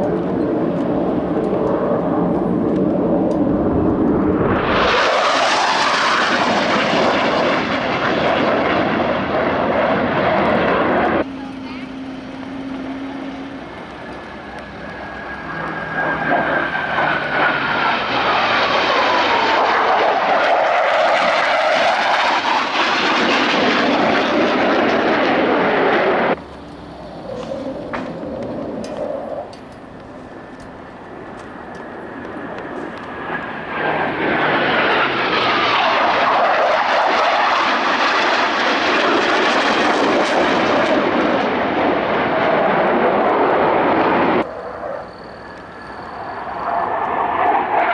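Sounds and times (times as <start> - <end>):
jet flying past: 0.0 - 47.9
jet whine falling in pitch: 0.0 - 47.9.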